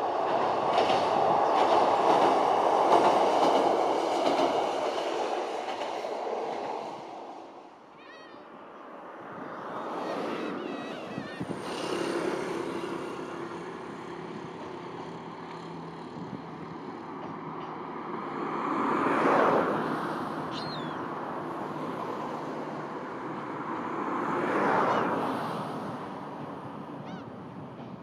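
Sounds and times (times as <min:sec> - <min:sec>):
train rumbling over steel bridge: 0:00.0 - 0:28.0.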